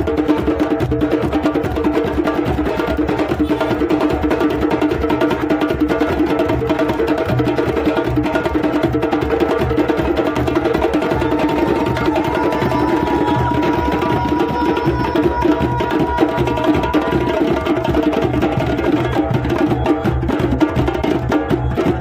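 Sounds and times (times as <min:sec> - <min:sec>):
hand drums playing: 0:00.0 - 0:22.0.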